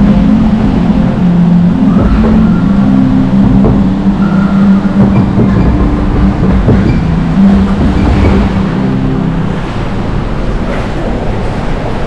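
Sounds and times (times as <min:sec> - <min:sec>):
held low tones: 0:00.0 - 0:10.9
rushing water and boat rumble: 0:00.0 - 0:12.0.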